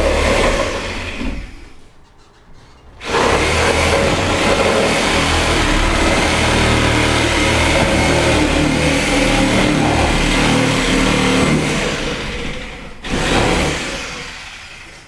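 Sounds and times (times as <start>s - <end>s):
loud motor running: 0.0s - 1.4s, 3.0s - 15.0s.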